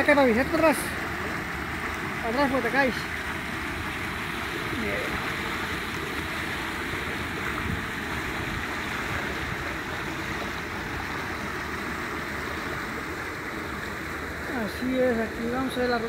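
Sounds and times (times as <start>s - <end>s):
water rushing in channel: 0.0s - 16.0s.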